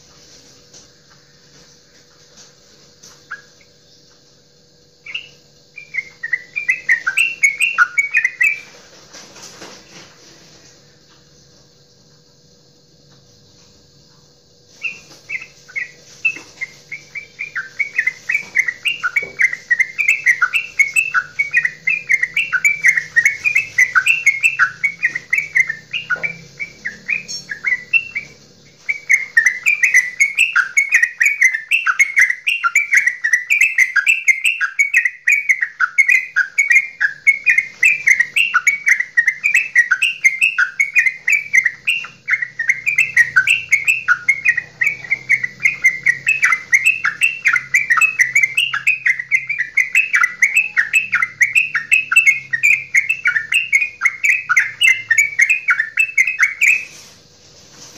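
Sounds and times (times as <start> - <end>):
bird chattering song: 1.0 - 10.0, 14.6 - 57.9.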